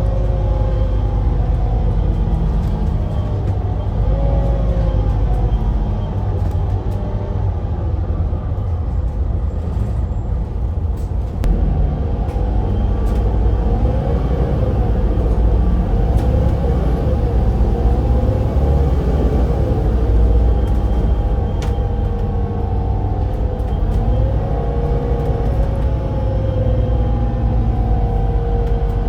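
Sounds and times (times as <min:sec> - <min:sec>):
bus diesel engine rumbling: 0:00.0 - 0:29.0.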